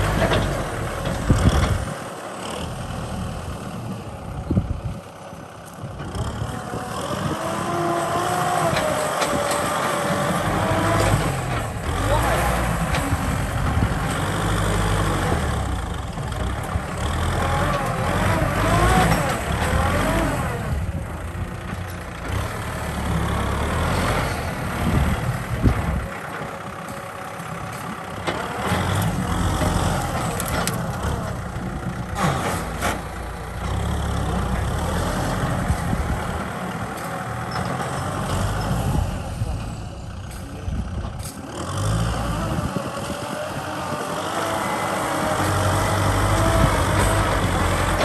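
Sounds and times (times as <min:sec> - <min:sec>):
tractor diesel engine rumbling: 0:00.0 - 0:48.0.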